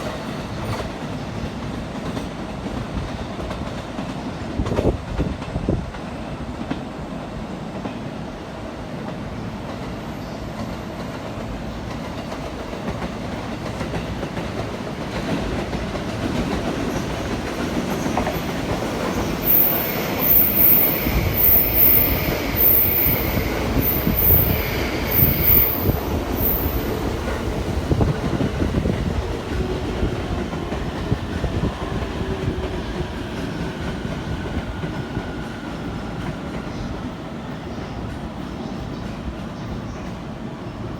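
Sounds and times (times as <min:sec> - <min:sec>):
electric train rumble: 0:00.0 - 0:40.9
train whine: 0:00.0 - 0:40.9.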